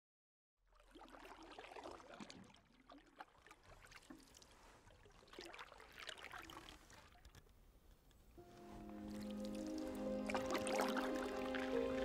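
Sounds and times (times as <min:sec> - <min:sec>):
paddle dipping and dripping water: 0:00.6 - 0:12.0.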